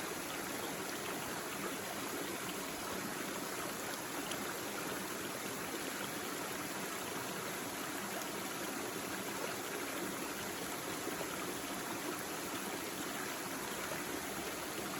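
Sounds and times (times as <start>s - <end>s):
stream babbling over stones: 0.0s - 14.9s.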